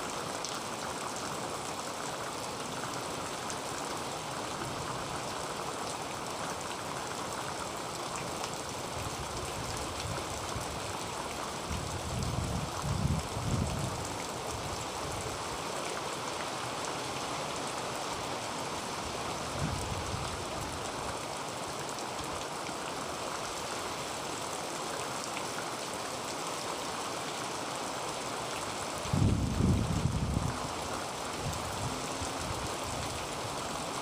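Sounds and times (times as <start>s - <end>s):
heavy rain on a tin roof: 0.0s - 34.0s.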